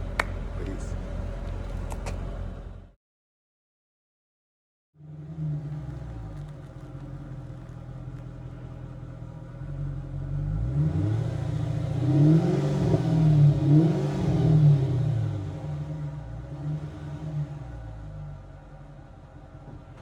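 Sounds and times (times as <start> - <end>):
car engine idling and revving: 0.0 - 3.0, 5.0 - 20.0.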